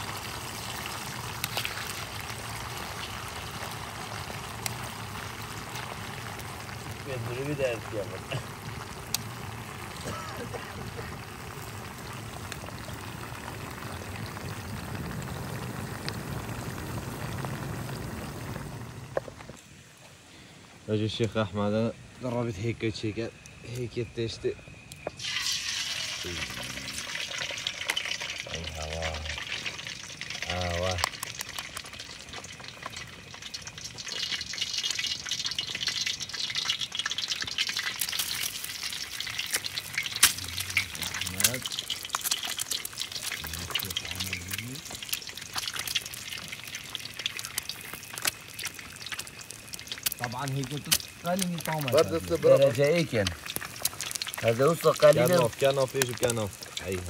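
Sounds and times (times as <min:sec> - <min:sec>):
fries sizzling in hot oil: 0:00.0 - 0:57.0.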